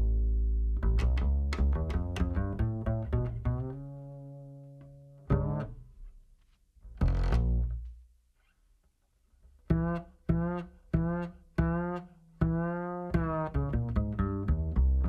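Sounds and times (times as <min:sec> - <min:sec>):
plucked low string notes: 0:00.0 - 0:06.0, 0:06.9 - 0:08.0, 0:09.6 - 0:15.0.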